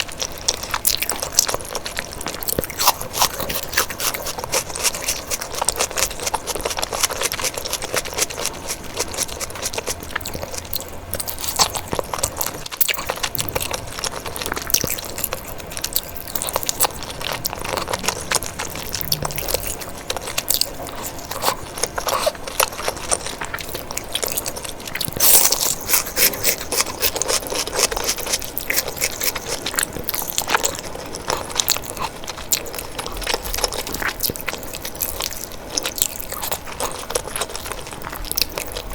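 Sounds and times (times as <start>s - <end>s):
person chewing food: 0.0s - 38.9s.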